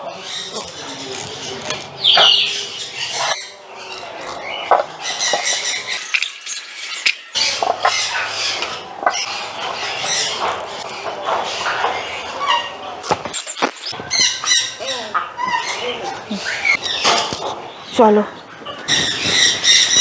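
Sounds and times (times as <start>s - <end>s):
parrots squawking and screeching: 0.0s - 20.0s.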